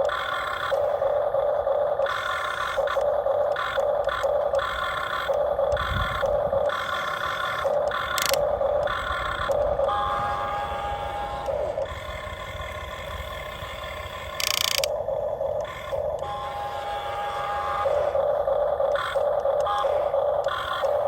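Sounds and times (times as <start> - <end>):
toy excavator motors whirring: 0.0 - 21.0.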